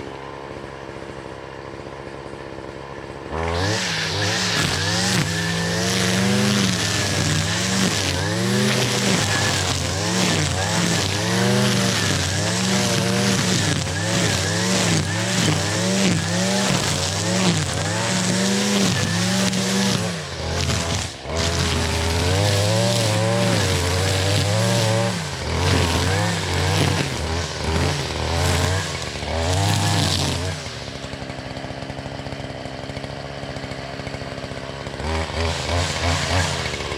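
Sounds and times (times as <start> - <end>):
string trimmer engine revving: 0.0 - 36.9.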